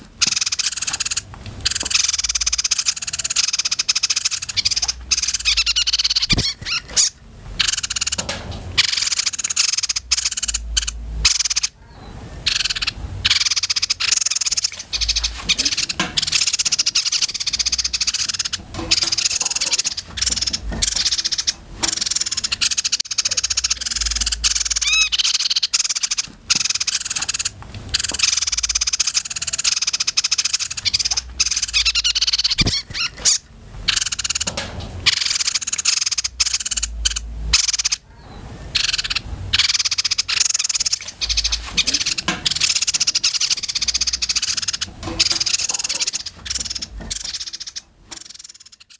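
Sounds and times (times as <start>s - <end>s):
songbirds singing and chattering: 0.0s - 48.9s.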